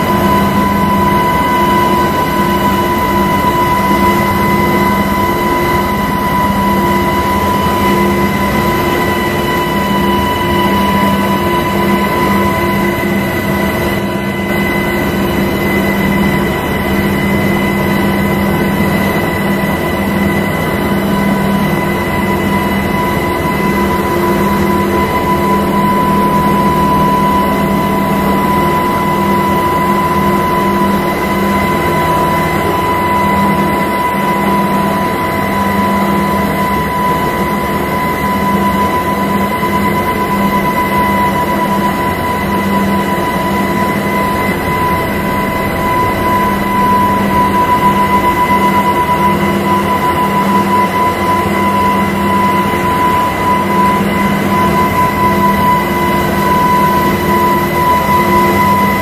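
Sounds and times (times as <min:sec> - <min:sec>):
even whine: 0:00.0 - 0:59.0
helicopter engine and rotor drone: 0:00.0 - 0:59.0.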